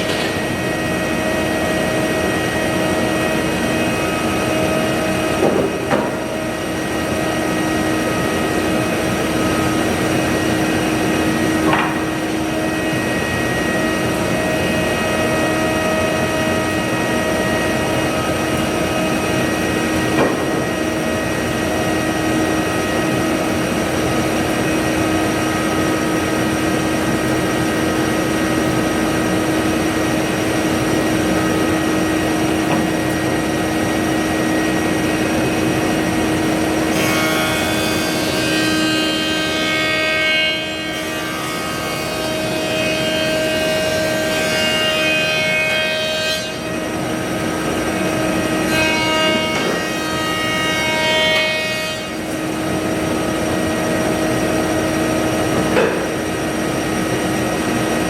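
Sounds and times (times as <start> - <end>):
woodworking machine humming: 0.0 - 58.0.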